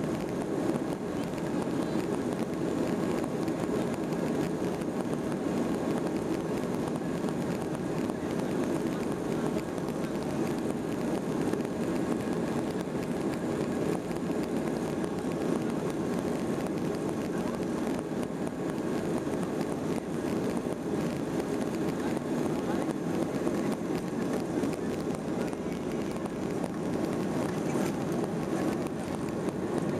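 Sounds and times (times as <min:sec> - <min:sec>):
airliner cabin engine rumble: 0:00.0 - 0:29.9.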